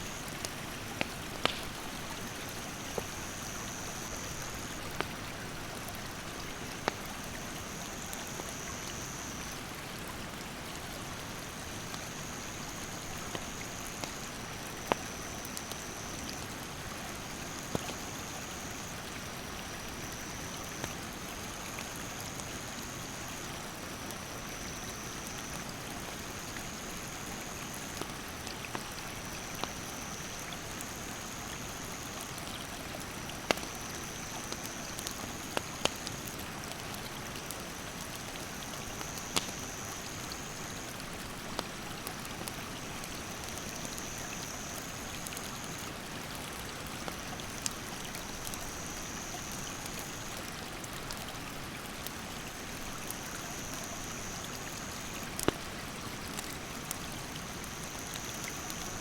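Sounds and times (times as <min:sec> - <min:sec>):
campfire crackling and popping: 0:00.0 - 0:23.2, 0:24.0 - 0:59.0.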